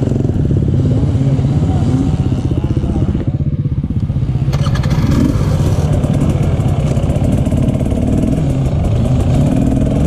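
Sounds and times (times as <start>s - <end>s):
other dirt bike engines: 0.0s - 10.0s
two-stroke motorcycle engine revving: 0.0s - 10.0s.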